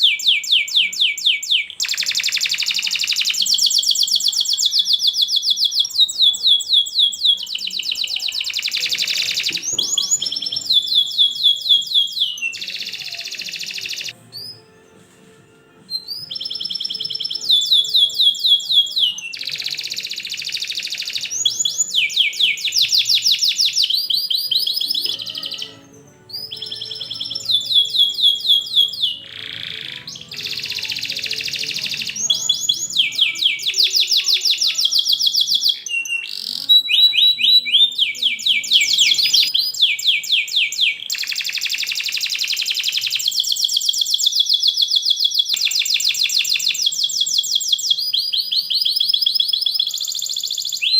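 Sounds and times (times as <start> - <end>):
canary singing trills: 0.0 - 14.8, 15.8 - 50.9.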